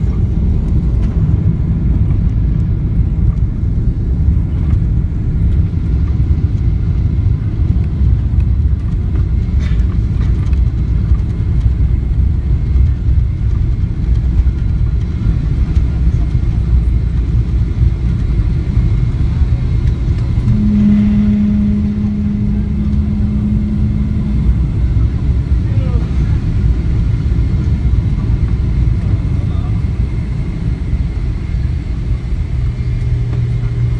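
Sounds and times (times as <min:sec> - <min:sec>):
airplane cabin rumble: 0:00.0 - 0:33.9
steady low hum: 0:00.0 - 0:33.9.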